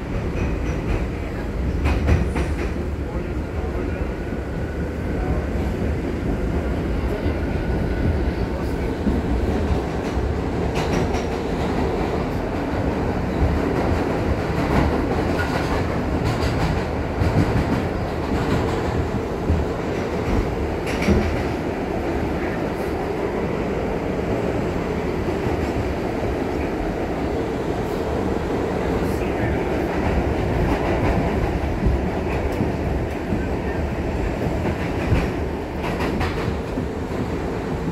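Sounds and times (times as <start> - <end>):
subway wheels rumbling: 0.0 - 37.9.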